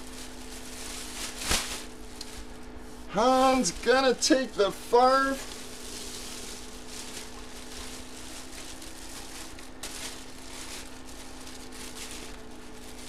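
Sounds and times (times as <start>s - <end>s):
electrical hum and hiss: 0.0s - 13.0s
plastic bag rustling and crinkling: 0.0s - 13.0s.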